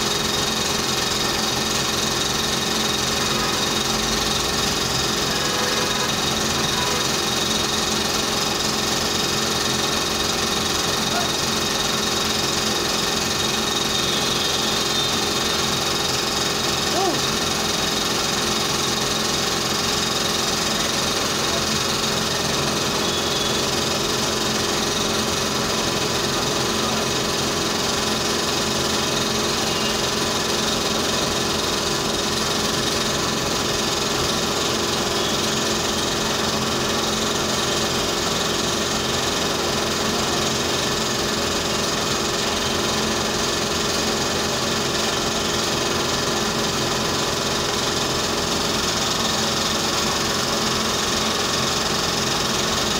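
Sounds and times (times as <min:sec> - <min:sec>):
dental equipment whirring: 0:00.0 - 0:52.9.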